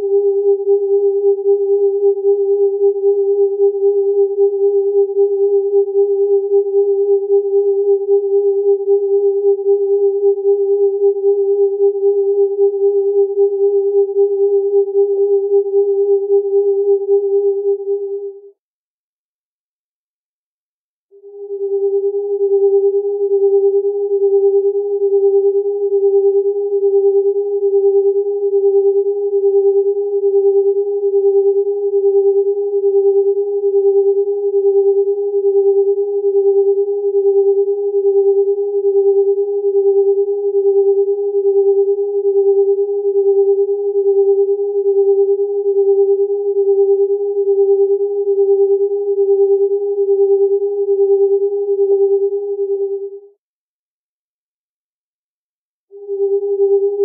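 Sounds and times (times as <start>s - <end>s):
electronic sine-wave tones beating: 0.0s - 18.5s, 21.2s - 53.3s, 55.9s - 57.0s.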